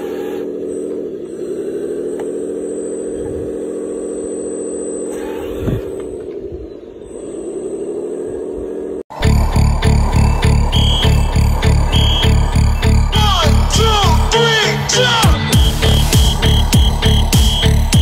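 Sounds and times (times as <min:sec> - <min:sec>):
model motor whine: 0:00.0 - 0:14.9, 0:15.5 - 0:18.0.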